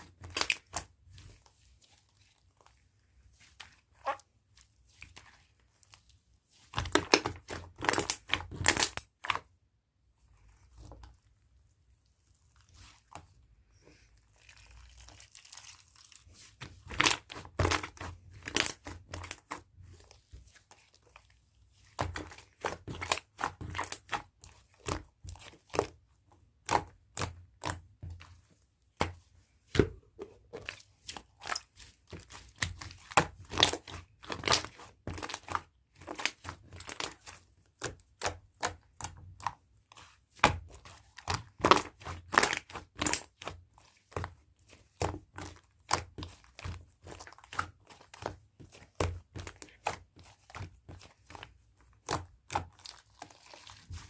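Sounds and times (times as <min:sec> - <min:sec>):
slime squished by hands: 0:00.0 - 0:09.6, 0:10.2 - 0:54.0.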